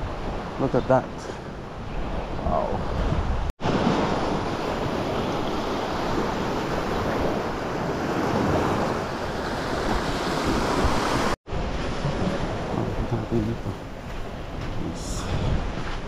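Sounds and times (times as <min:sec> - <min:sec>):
small waves washing on shore: 0:00.0 - 0:16.0
wind buffeting microphone: 0:01.4 - 0:16.0.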